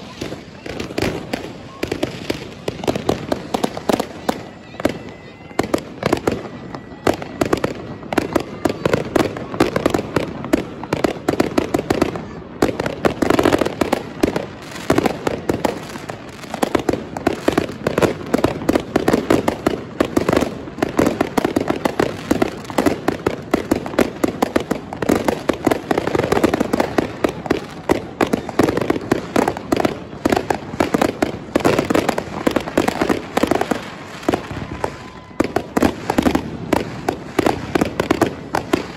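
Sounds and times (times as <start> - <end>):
fireworks and firecrackers bangs: 0.0 - 38.9.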